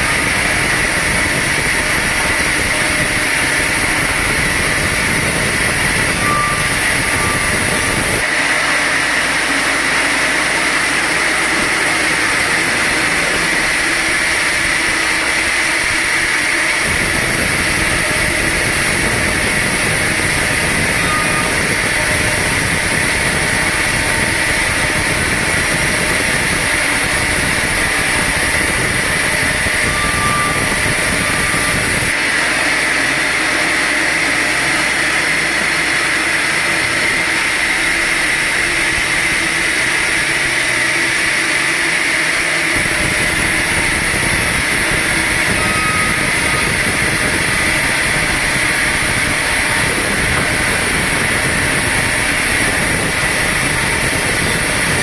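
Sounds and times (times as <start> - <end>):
sawmill machinery whining: 0.0 - 55.0.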